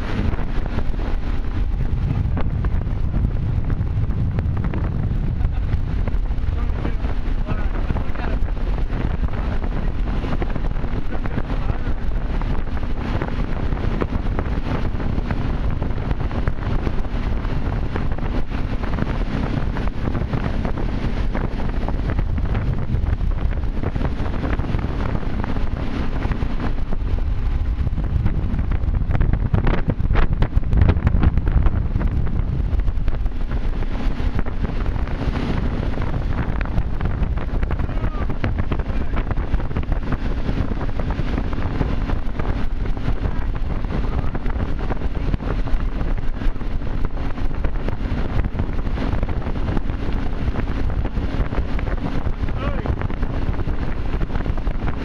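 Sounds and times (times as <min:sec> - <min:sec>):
boat engine: 0:00.0 - 0:55.0
rushing water: 0:00.0 - 0:55.0
wind buffeting microphone: 0:00.0 - 0:55.0.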